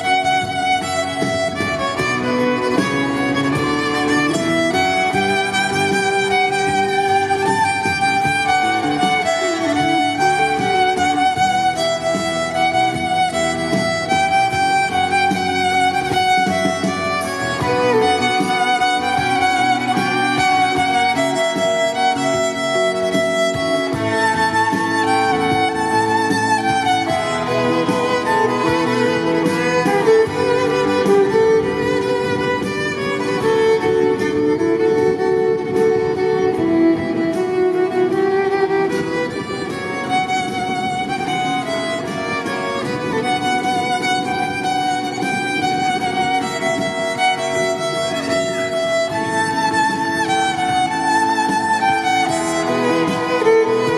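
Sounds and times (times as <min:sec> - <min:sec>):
violin melody over loudspeaker: 0:00.0 - 0:53.9.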